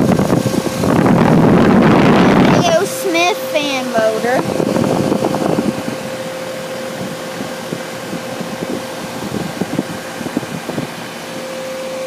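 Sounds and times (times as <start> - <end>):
heat pump fan rushing air: 0.0 - 12.0
heat pump motor hum: 0.0 - 12.0.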